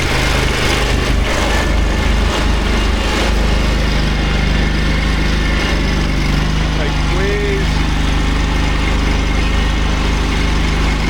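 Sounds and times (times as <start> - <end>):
small petrol engine running: 0.0 - 11.0.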